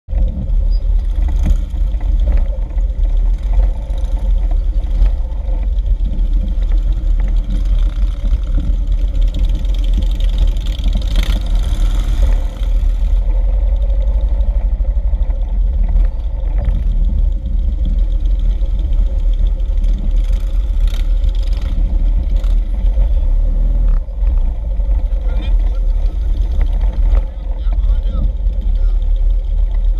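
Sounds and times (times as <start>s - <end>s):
motorcycle engines rumbling: 0.1s - 29.9s.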